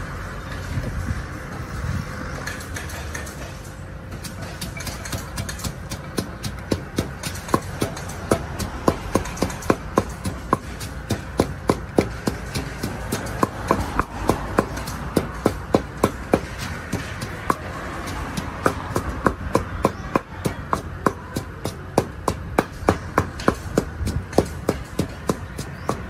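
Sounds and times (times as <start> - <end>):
wooden pestle pounding in mortar: 4.2 - 26.0.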